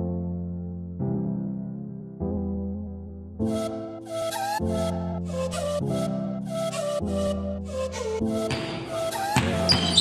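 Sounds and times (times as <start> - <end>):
background music with melody: 0.0 - 10.0.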